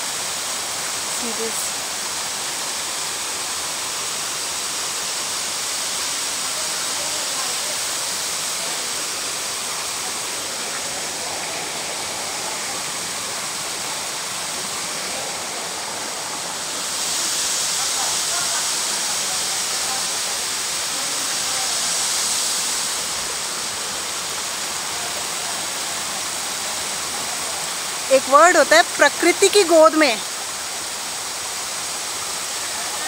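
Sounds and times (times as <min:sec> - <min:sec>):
waterfall cascading onto rocks: 0:00.0 - 0:33.0.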